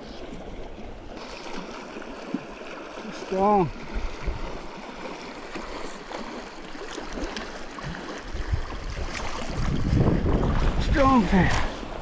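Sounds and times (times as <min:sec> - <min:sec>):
river running and gurgling: 0:00.0 - 0:12.0.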